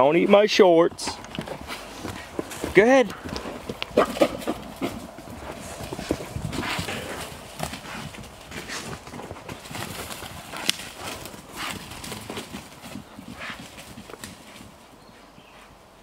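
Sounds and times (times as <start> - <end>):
pig hooves trotting: 0.0 - 16.0
rustling through brush: 1.2 - 15.8.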